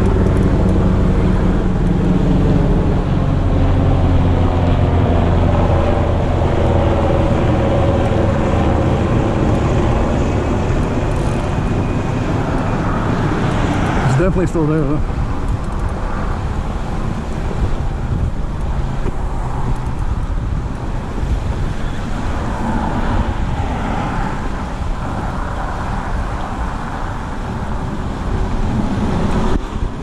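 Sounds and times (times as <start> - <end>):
road traffic rumble: 0.0 - 30.0
wind buffeting microphone: 0.0 - 30.0.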